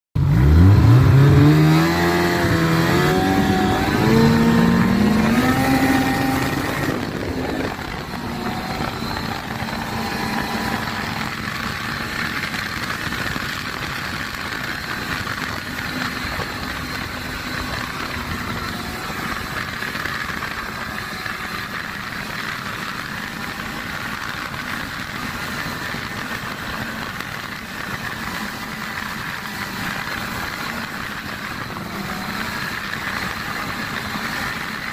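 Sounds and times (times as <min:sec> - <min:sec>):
snowmobile engine accelerating: 0:00.2 - 0:34.9.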